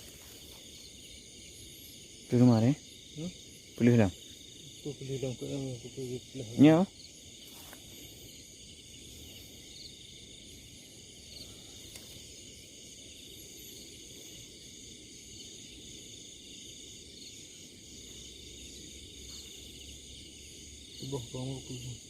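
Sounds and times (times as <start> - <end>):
crickets and insects trilling: 0.0 - 22.0.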